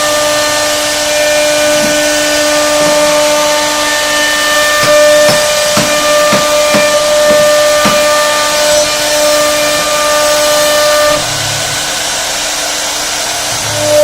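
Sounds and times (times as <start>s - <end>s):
router spindle cutting wood: 0.0s - 14.0s.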